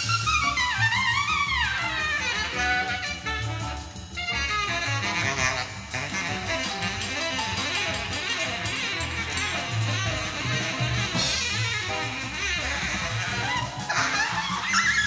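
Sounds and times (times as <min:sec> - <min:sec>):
bass and drums: 0:00.0 - 0:15.0
saxophone: 0:00.0 - 0:15.0.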